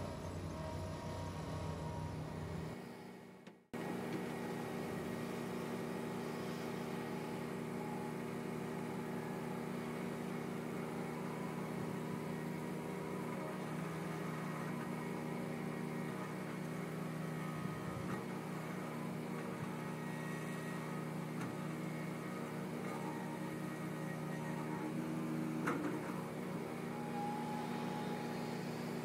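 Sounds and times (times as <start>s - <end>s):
generator engine running: 0.0s - 29.0s
loader engine running: 0.0s - 29.0s.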